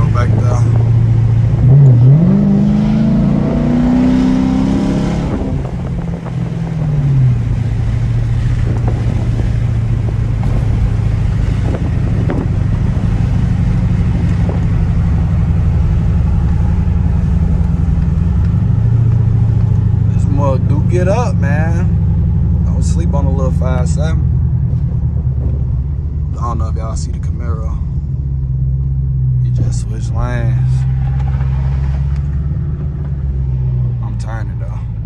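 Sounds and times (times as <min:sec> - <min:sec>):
loud exhaust drone at cruise: 0:00.0 - 0:28.6
car engine accelerating: 0:00.0 - 0:35.0.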